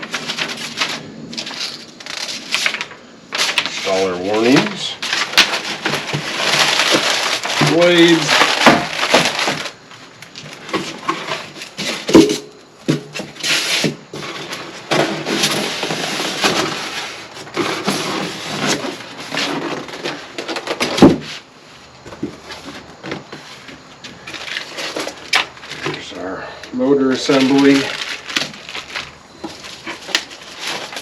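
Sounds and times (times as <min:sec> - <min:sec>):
cardboard packaging rustling: 0:00.0 - 0:31.0.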